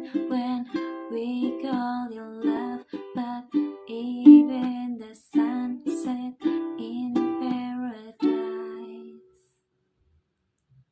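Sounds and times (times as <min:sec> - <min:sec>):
ukulele strumming: 0:00.0 - 0:09.3.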